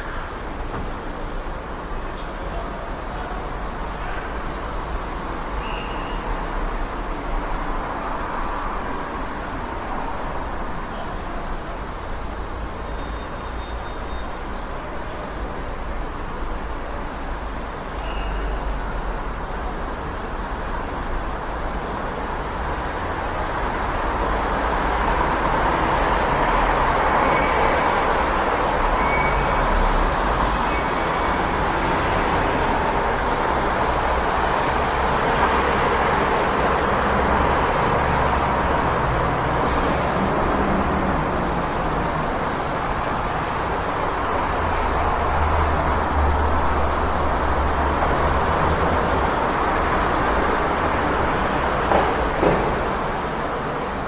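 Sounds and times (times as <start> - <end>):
passing vehicles: 0.0 - 54.0.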